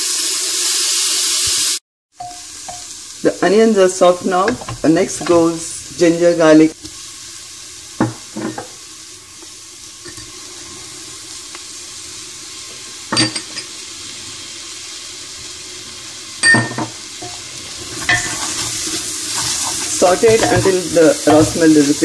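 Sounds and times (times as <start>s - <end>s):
onions sizzling in a pot: 0.0s - 22.0s.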